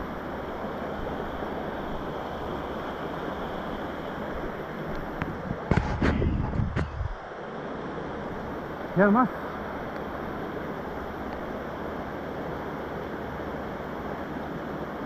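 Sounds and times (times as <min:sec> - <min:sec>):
flowing river water: 0:00.0 - 0:06.0, 0:06.8 - 0:15.0.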